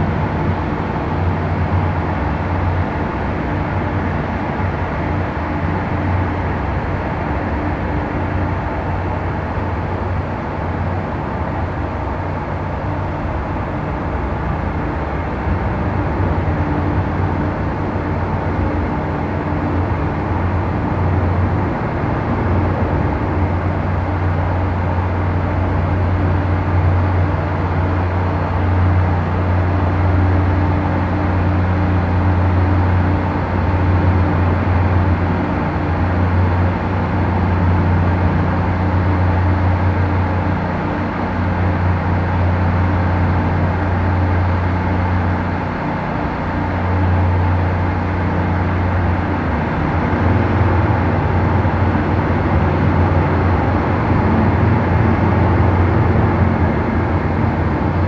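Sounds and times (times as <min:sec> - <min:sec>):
boat engines droning: 0:00.0 - 0:58.0.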